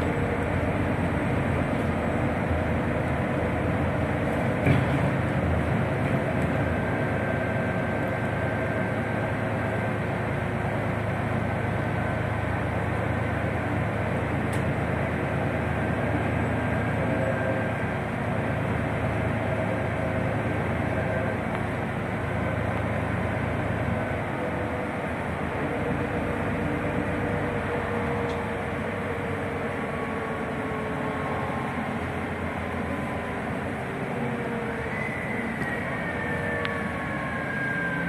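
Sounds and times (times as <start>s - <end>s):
bus drivetrain and road noise: 0.0s - 38.0s.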